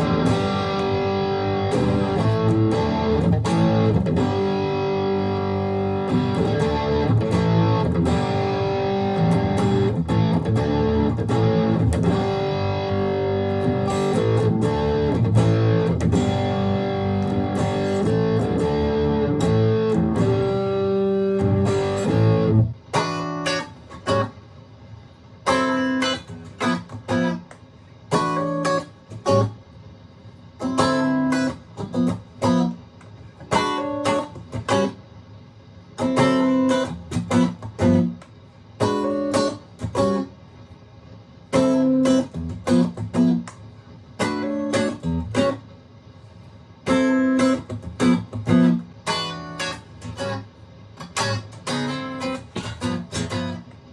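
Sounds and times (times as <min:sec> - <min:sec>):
electric guitar playing: 0:00.0 - 0:24.4, 0:25.4 - 0:29.6, 0:30.6 - 0:35.0, 0:36.0 - 0:40.3, 0:41.5 - 0:45.7, 0:46.8 - 0:53.9.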